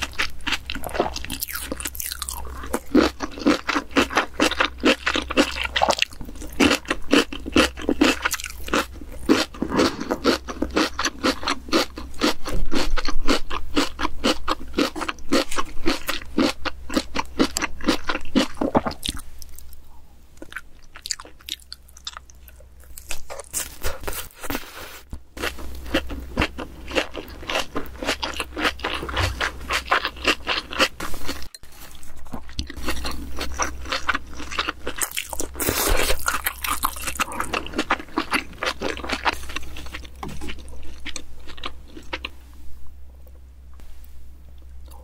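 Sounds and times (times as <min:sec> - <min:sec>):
wet chewing and crunchy bites: 0:00.0 - 0:19.8, 0:20.4 - 0:24.3, 0:25.4 - 0:42.4.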